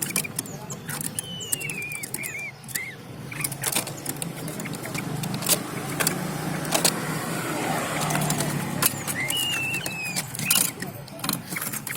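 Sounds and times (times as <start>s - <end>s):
sharp clicks: 0.0s - 7.1s, 7.9s - 11.9s
bird chirp: 0.0s - 11.9s
low engine hum: 0.5s - 11.8s.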